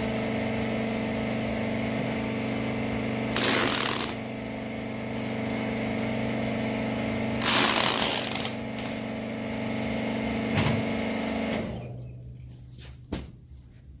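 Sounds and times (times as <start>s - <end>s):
baler machine motor hum: 0.0s - 12.6s.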